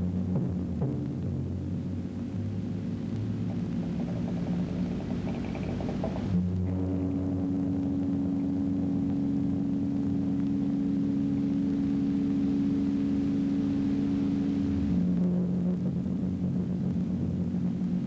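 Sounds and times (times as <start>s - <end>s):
low sustained chord music: 0.0s - 18.0s.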